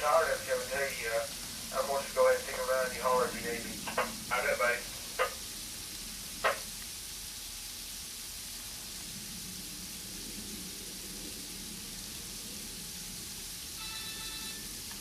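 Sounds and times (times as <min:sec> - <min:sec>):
icy snow hissing on ground: 0:00.0 - 0:15.0.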